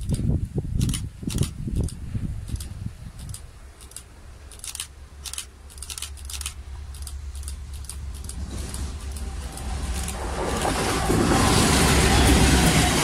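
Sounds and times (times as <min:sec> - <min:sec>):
distant locomotive rumble: 0:00.8 - 0:13.0.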